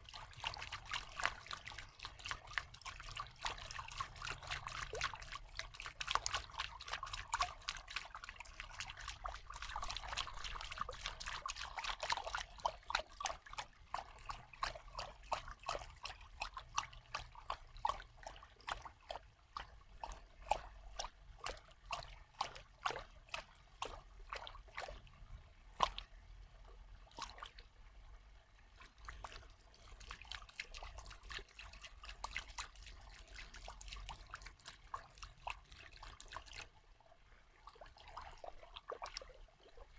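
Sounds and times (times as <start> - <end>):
water dripping and trickling: 0.0 - 26.4, 27.0 - 36.8, 37.6 - 39.9.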